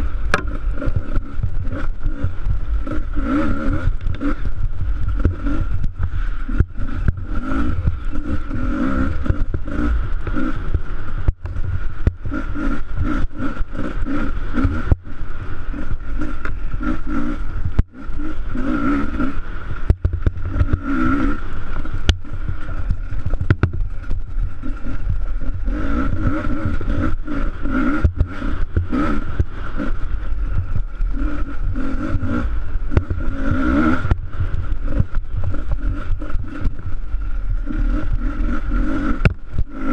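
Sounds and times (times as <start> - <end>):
bike clattering over bumps: 0.0 - 39.9
motorcycle engine revving: 0.0 - 39.9.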